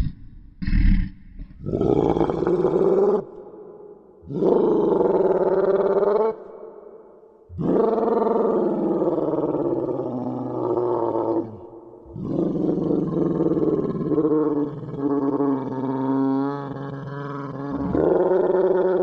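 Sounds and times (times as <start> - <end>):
dinosaur roar: 0.0 - 3.4, 4.2 - 6.5, 7.5 - 19.0.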